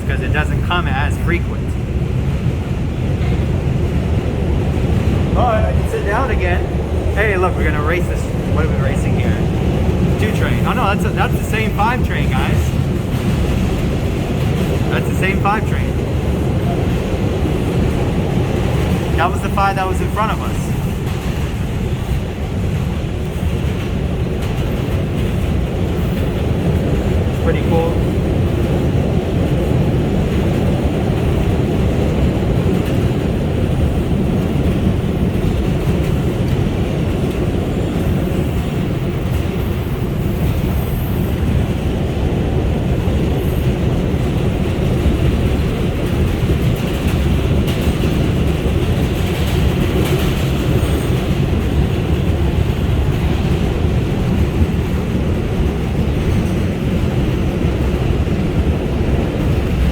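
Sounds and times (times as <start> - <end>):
subway car wheels on rail: 0.0 - 59.9.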